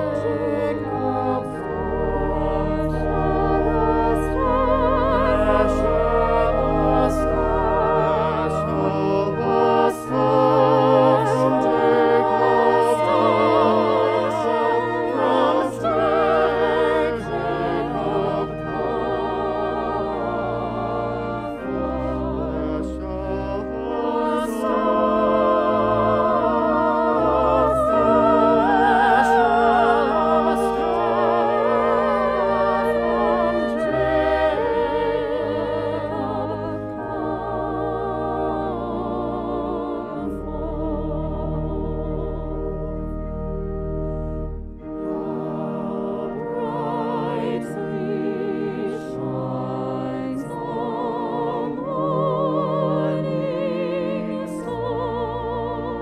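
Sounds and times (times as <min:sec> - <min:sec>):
voices singing with vibrato: 0:00.0 - 0:43.0, 0:44.8 - 0:56.0
low instrumental accompaniment: 0:00.0 - 0:56.0.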